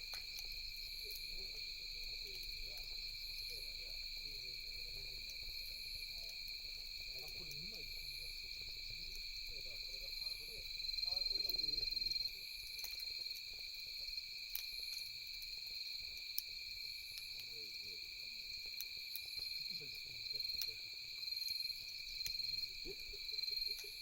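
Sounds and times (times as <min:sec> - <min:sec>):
campfire pops and crackles: 0:00.0 - 0:24.0
crickets trilling: 0:00.0 - 0:24.0.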